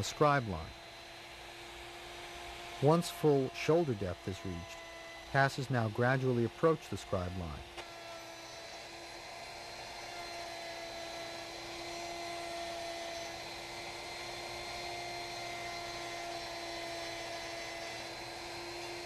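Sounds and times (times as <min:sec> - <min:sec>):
router motor whine: 0:00.0 - 0:19.0.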